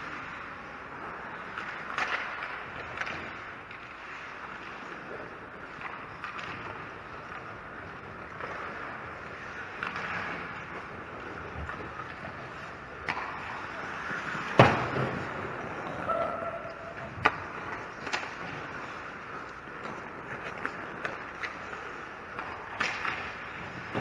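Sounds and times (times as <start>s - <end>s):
hockey sticks and puck clacking: 0.0s - 24.0s
skate blades scraping ice: 0.0s - 24.0s.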